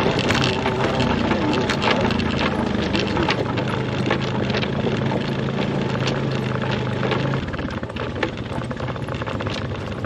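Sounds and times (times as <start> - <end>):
clicks and rattles: 0.0 - 10.0
vehicle engine running: 0.0 - 10.0.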